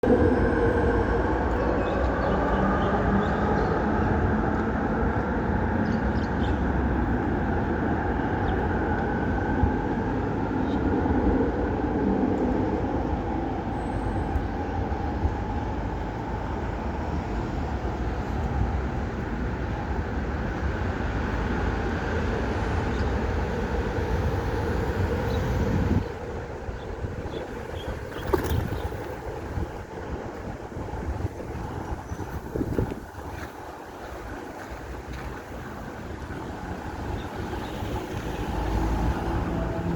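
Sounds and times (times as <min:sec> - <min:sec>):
vehicle rumbling: 0:00.0 - 0:39.9.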